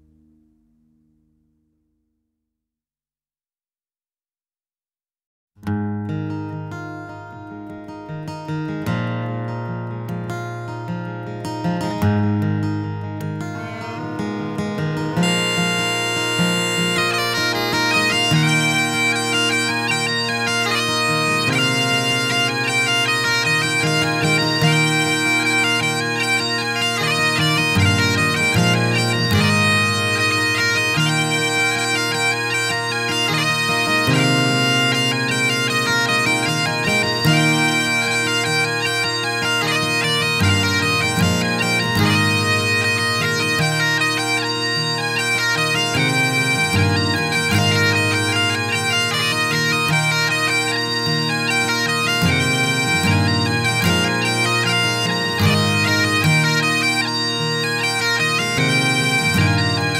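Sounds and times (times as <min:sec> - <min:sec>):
bagpipes playing a tune: 0:06.5 - 0:59.9.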